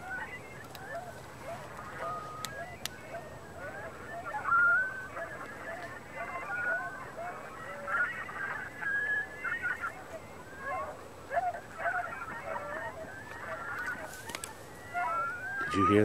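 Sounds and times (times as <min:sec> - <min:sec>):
chorus of animal calls: 0:00.0 - 0:16.0.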